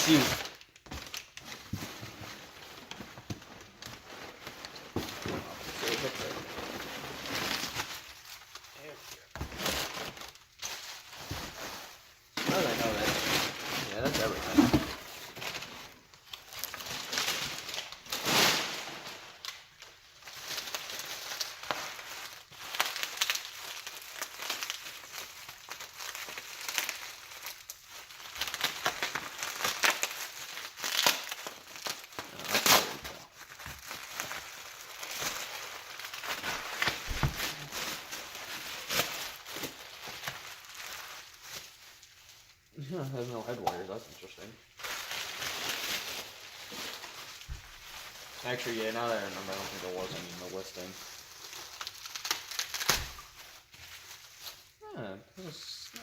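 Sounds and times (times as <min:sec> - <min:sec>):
plastic wrap crinkling: 0:00.0 - 0:56.0.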